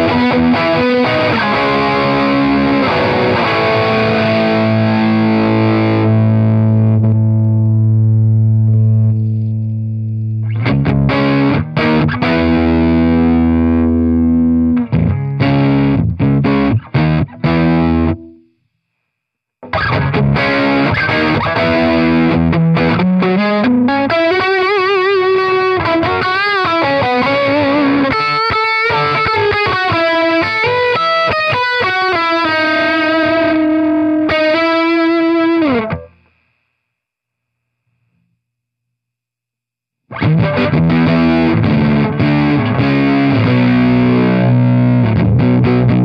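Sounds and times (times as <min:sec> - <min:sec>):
distorted electric guitar: 0:00.0 - 0:18.6, 0:19.6 - 0:36.6, 0:40.1 - 0:46.0.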